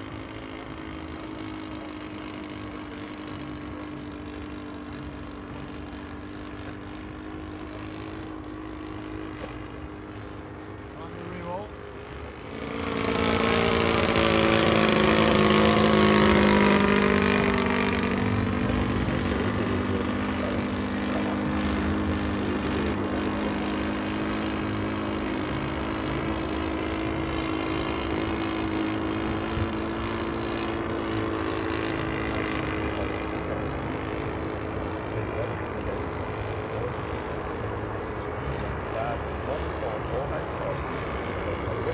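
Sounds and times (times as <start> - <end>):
model airplane engine and propeller: 0.0 - 41.9.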